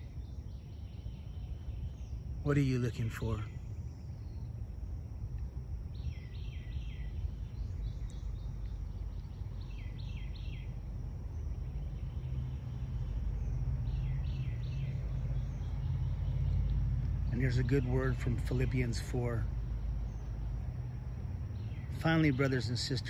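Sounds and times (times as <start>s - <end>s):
songbird calling: 0.0s - 23.0s.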